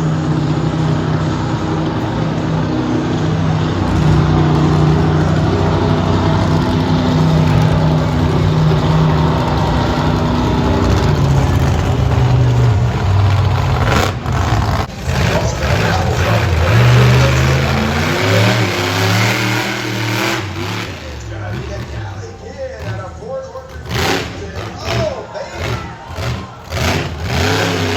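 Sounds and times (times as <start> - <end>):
monster truck engine revving: 0.0 - 27.9.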